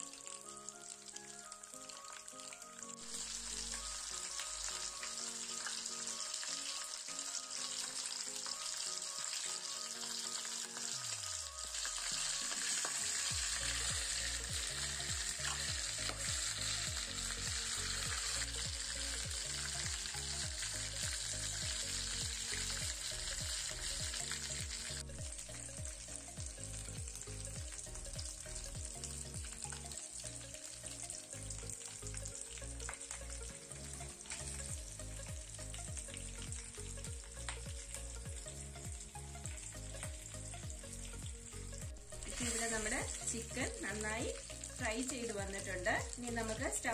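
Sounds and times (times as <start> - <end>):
chicken sizzling in oil: 0.0 - 46.9.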